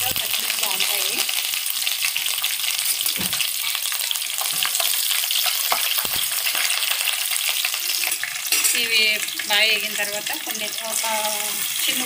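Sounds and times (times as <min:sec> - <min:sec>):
crackling sizzle of frying: 0:00.0 - 0:12.0.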